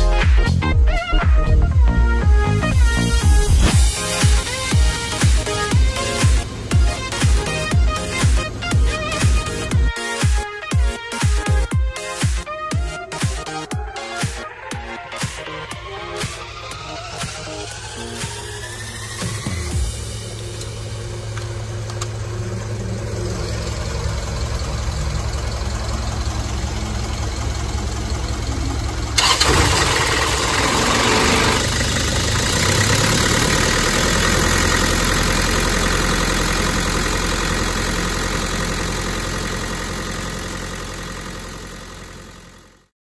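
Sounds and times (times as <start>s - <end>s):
diesel truck engine idling: 0.0s - 42.9s.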